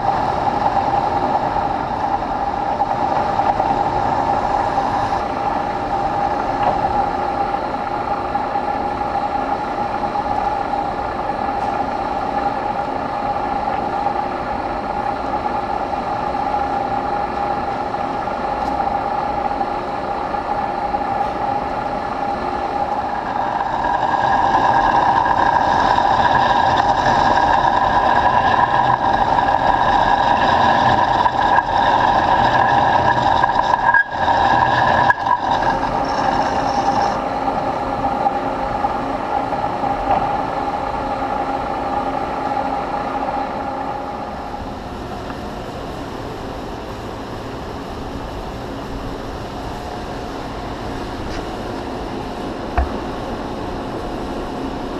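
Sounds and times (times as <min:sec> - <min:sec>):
lathe cutting steel whine: 0:00.0 - 0:54.9.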